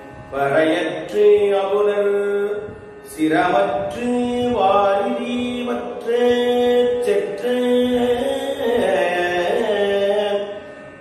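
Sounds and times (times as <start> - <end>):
man singing devotional verse: 0.3 - 10.6.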